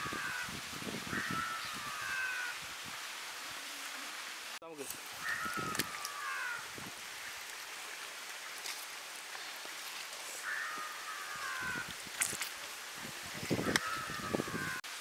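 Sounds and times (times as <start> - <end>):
outdoor hiss: 0.0 - 15.0.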